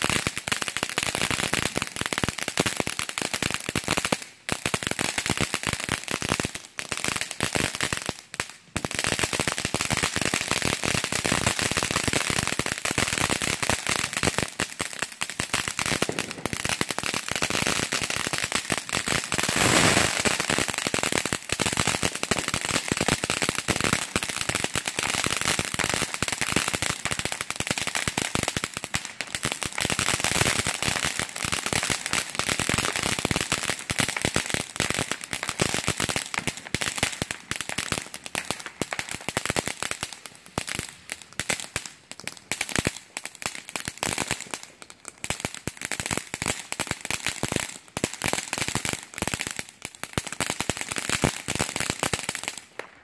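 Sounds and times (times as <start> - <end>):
crackle of firecracker pops: 0.0 - 2.6, 7.3 - 53.0.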